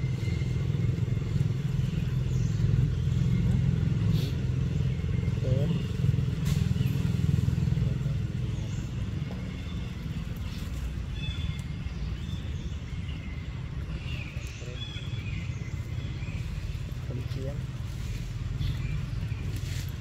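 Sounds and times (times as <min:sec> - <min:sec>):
motor engine rumble: 0:00.0 - 0:20.0.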